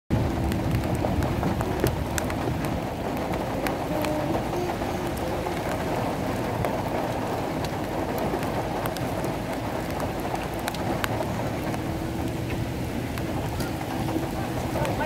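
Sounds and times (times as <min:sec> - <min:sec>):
rain falling steadily: 0:00.1 - 0:15.0.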